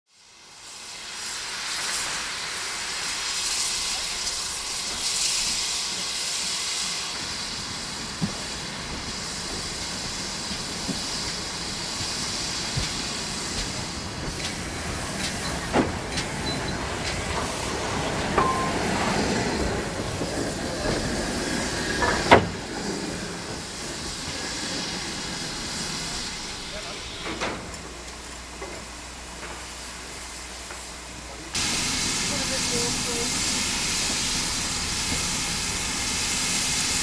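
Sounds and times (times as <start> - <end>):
steam hissing: 0.1 - 37.0.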